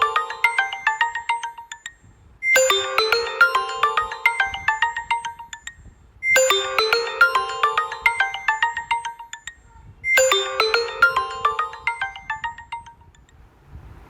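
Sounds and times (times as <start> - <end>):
mobile phone ringtone: 0.0 - 13.1.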